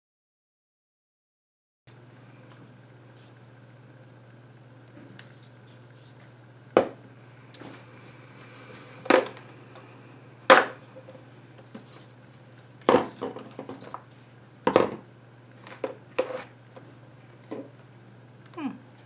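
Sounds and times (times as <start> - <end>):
low steady hum: 1.9 - 19.0.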